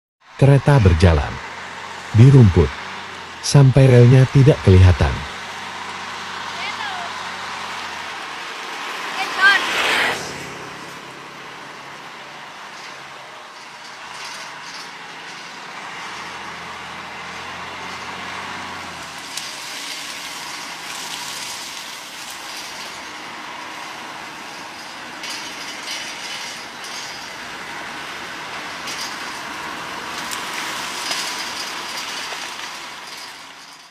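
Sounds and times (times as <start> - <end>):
locomotive engine hum: 0.2 - 33.9
wheels and wagons clanking: 0.2 - 33.9.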